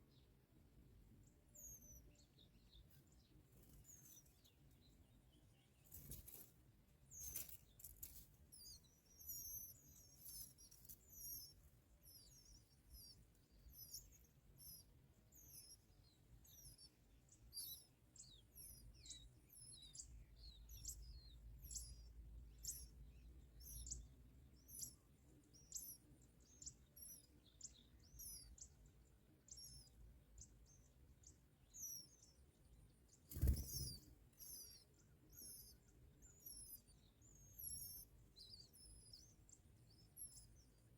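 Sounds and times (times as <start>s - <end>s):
birds chirping: 1.2s - 40.9s.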